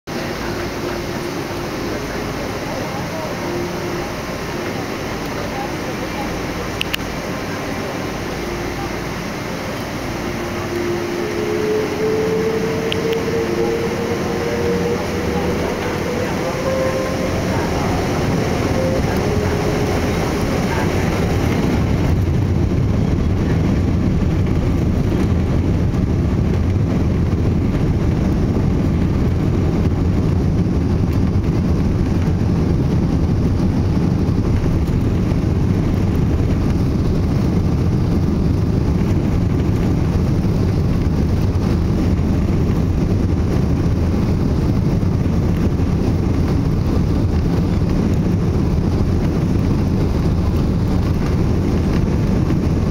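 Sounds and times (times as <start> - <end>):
jet engines rumbling: 0.1 - 52.9.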